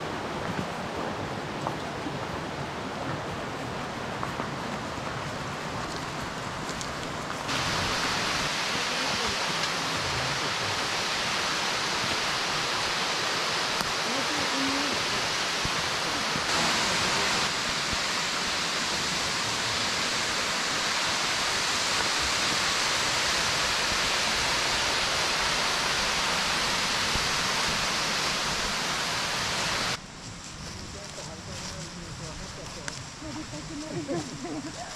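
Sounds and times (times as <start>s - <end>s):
rushing mountain stream: 0.0s - 30.0s.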